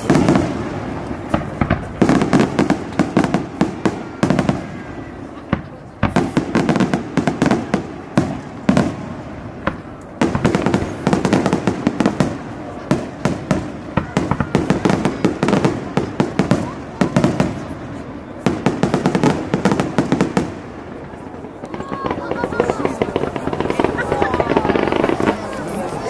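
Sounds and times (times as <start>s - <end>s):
rapid crackling of fireworks: 0.0s - 26.0s.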